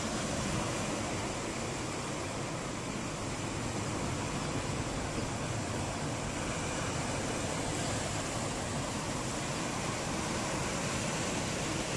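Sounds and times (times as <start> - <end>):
ocean surf washing up a beach: 0.0 - 11.9.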